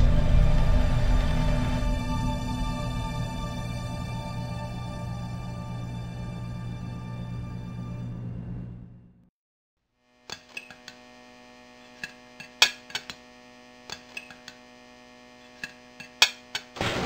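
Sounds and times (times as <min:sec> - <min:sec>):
electrical hum: 0:00.0 - 0:09.3, 0:10.1 - 0:17.0.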